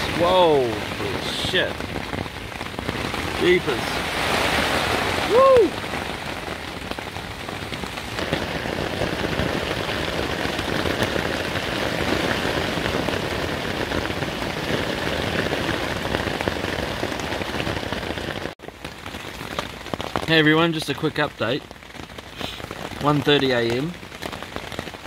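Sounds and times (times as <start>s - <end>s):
heavy rain on tent: 0.0s - 25.0s.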